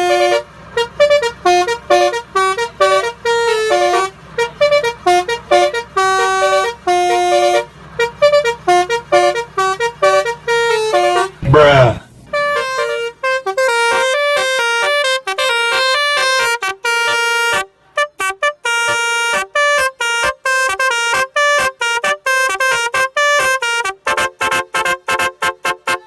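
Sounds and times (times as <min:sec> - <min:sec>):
musical bus horn melody: 0:00.0 - 0:26.0.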